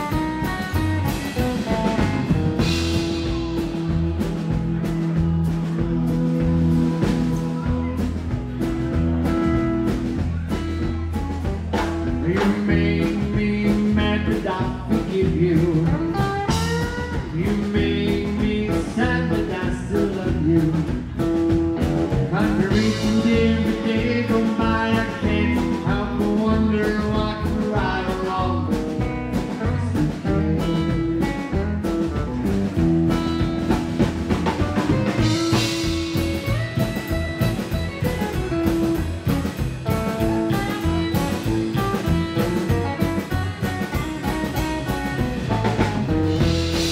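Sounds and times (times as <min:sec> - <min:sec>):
drum kit beat: 0:00.0 - 0:46.9
electric guitar lead: 0:00.0 - 0:46.9
rhythm guitar: 0:00.0 - 0:46.9
upright double bass: 0:00.0 - 0:46.9.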